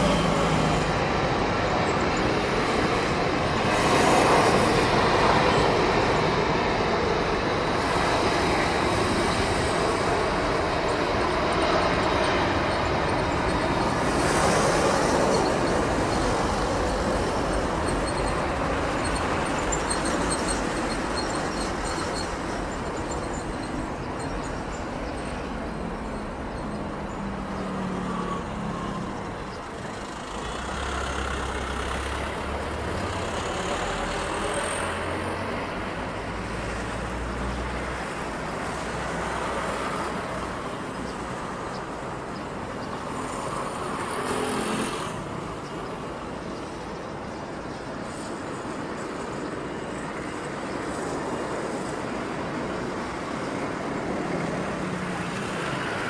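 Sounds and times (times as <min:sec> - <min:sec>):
jet engines roaring at takeoff: 0:00.0 - 0:36.6, 0:37.9 - 0:56.0.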